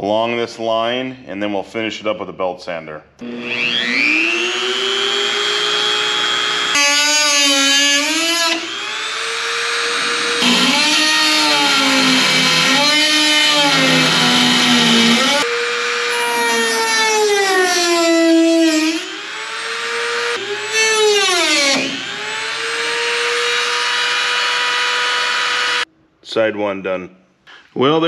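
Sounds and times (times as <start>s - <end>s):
cutoff wheel cutting metal: 3.2s - 25.9s
rotary tool whining: 3.2s - 25.9s.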